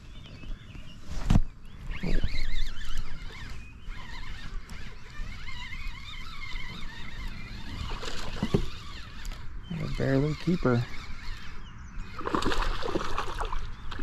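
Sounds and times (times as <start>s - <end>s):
birds chirping and warbling: 0.0s - 14.0s.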